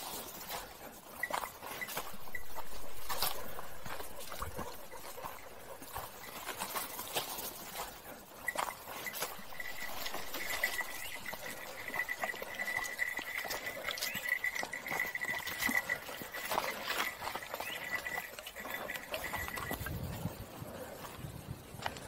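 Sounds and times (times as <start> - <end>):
footsteps on trail: 0.0 - 22.0.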